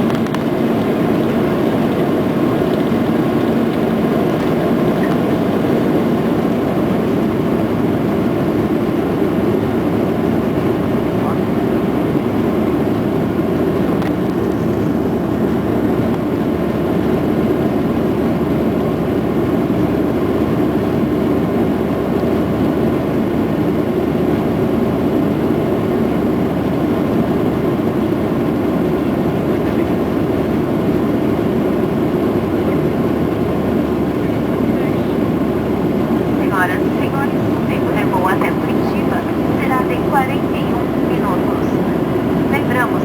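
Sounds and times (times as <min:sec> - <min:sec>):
jet engine and air noise in cabin: 0:00.0 - 0:43.0.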